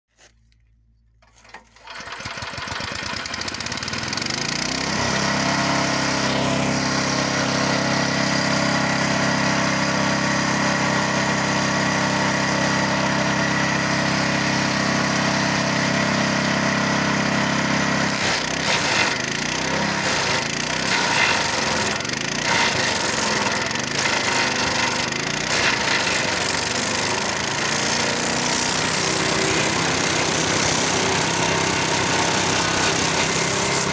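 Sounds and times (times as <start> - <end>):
wood chipper engine: 0.2 - 33.9.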